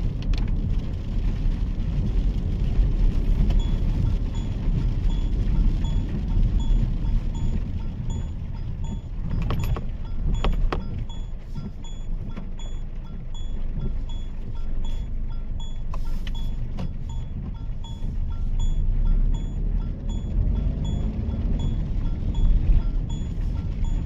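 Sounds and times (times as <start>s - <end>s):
road and engine rumble: 0.0s - 24.0s
turn signal ticking: 0.0s - 24.0s.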